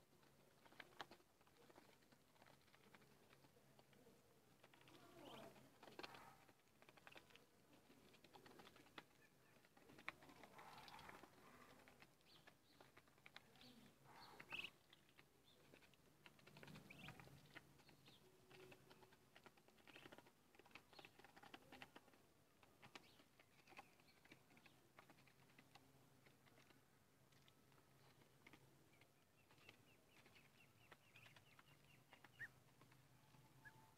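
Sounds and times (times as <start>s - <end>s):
ducklings pecking plastic dish: 0.0s - 33.9s
soft duckling calls: 0.2s - 33.9s.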